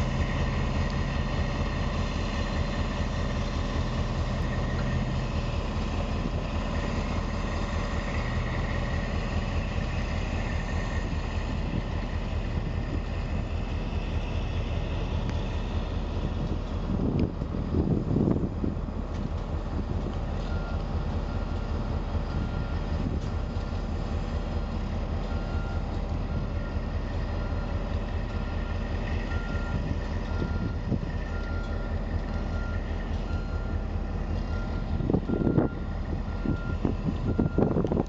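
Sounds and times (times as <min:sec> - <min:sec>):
diesel truck engine droning: 0:00.0 - 0:38.0.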